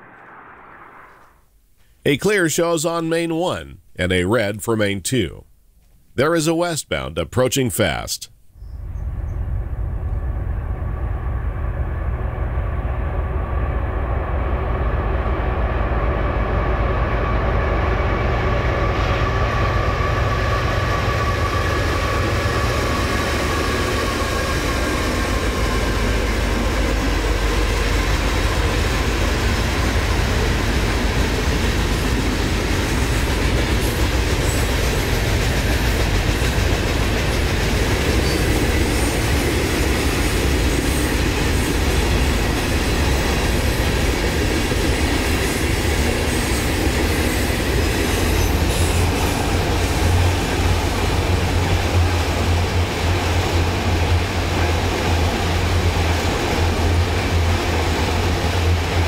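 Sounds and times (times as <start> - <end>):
freight train rumble: 8.8 - 59.0.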